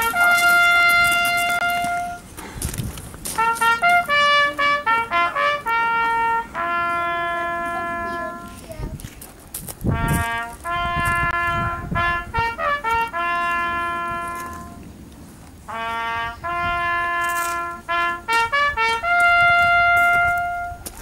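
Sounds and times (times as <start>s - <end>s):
solo trumpet playing a bugle call: 0.0s - 2.3s, 3.3s - 8.6s, 9.9s - 14.8s, 15.7s - 21.0s.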